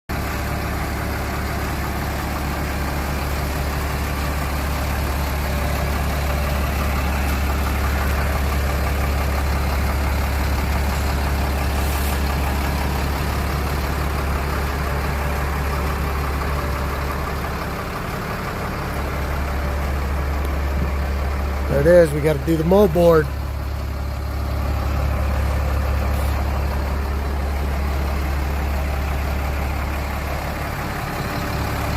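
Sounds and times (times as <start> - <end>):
large engine idling: 0.1 - 31.9.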